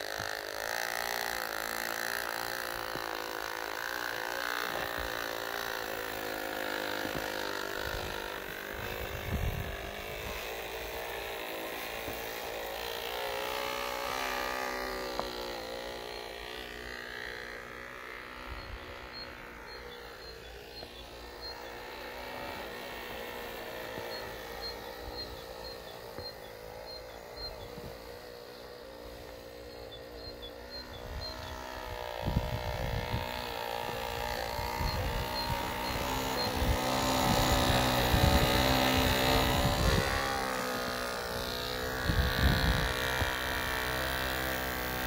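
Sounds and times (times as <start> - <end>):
small electric motors whining: 0.0 - 45.0.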